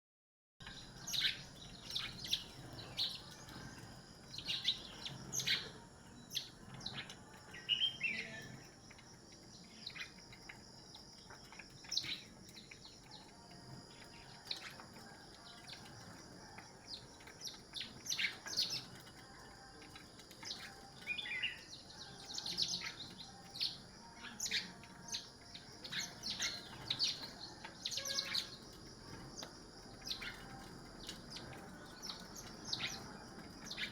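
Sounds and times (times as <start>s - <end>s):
birds chirping: 0.6s - 33.9s.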